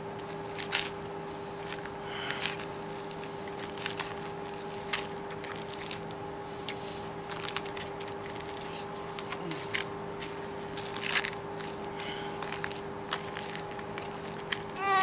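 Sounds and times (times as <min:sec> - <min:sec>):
steady hum: 0:00.0 - 0:15.0
people chewing with crunches: 0:00.2 - 0:14.8.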